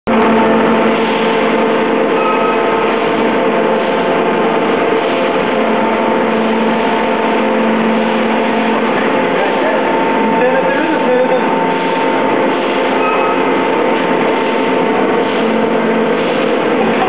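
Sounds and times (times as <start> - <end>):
production machinery running: 0.0 - 17.0.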